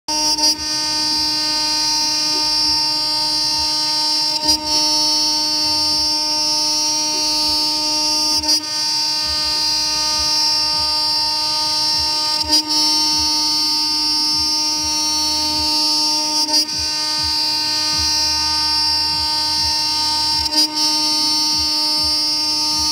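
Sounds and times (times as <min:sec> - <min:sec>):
router spindle whine cutting metal: 0:00.1 - 0:22.9.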